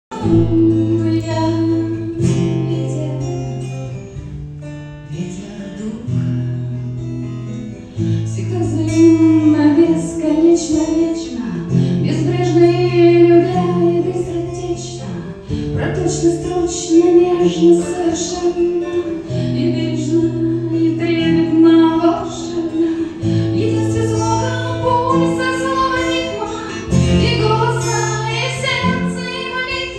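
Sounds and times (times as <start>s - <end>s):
woman singing: 0.1s - 4.0s, 8.2s - 29.9s
acoustic guitar chords: 0.1s - 29.9s.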